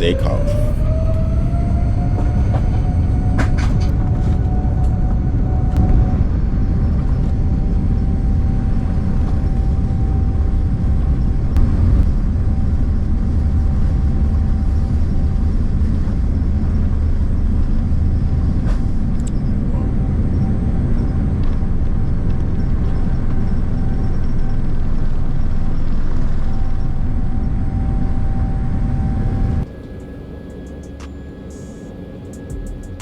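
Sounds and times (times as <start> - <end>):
jet engines rumbling and whining: 0.0 - 33.0.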